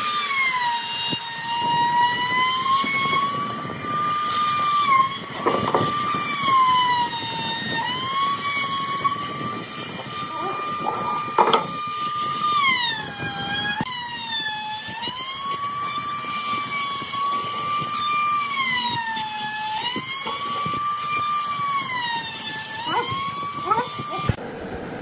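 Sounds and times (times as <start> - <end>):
router whining cutting wood: 0.0 - 24.4.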